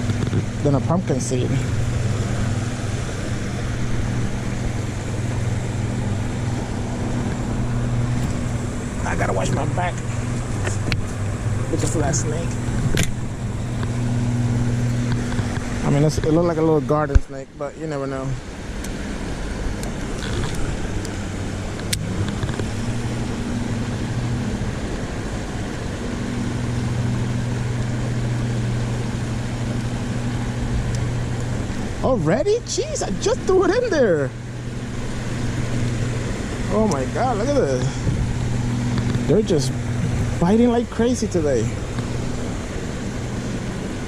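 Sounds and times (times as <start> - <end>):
constant low hum: 0.0 - 44.0
road traffic rush: 0.0 - 44.0.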